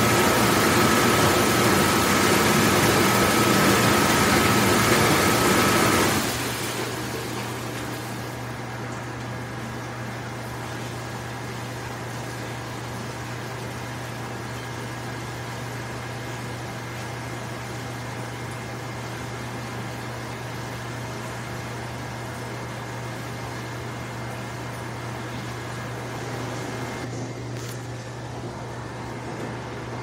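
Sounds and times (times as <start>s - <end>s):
dishwashing machine running: 0.0s - 30.0s.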